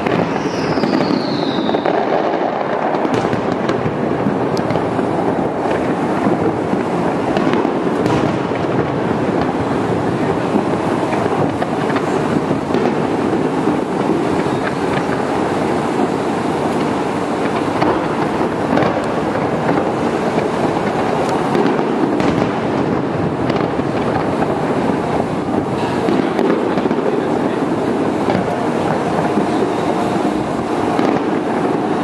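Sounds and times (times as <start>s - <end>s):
distant fireworks rumble: 0.0s - 32.0s
falling firework whistle: 0.0s - 32.0s
fireworks cracks: 0.0s - 32.0s.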